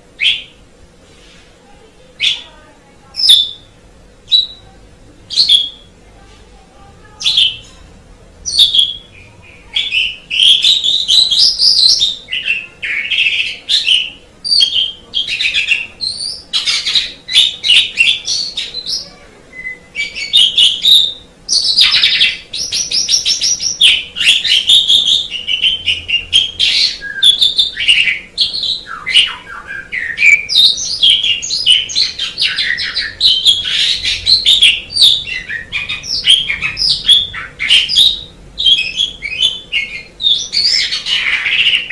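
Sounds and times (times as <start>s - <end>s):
starling singing chirps and whistles: 0.2s - 0.6s, 3.2s - 3.7s, 4.3s - 4.7s, 5.3s - 6.0s, 8.4s - 41.9s.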